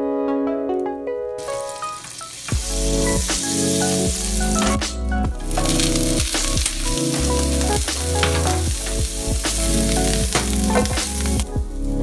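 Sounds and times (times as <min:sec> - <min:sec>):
background music with steady beat: 0:00.0 - 0:12.0
food sizzling in hot fat: 0:01.4 - 0:12.0.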